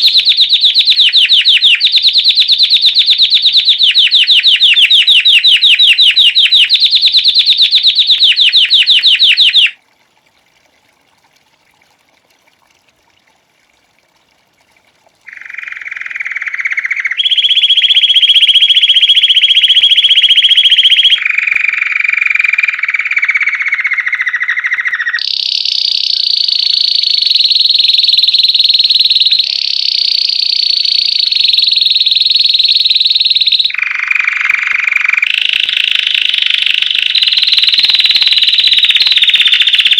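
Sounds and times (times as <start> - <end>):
canary singing trills: 0.0 - 9.8, 15.3 - 39.9.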